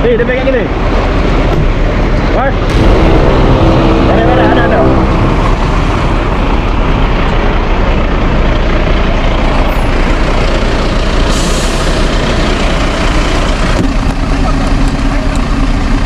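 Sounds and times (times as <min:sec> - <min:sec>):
fire engine running: 0:00.1 - 0:16.0.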